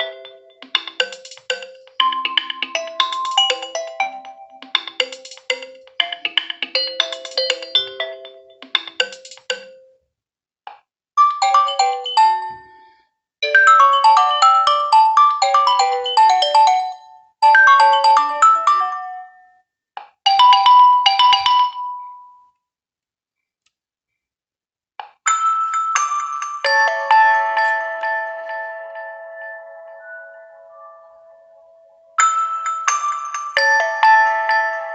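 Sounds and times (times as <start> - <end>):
phone ringtone melodies: 0.0 - 9.8, 11.2 - 19.5, 20.3 - 22.3, 25.3 - 34.9.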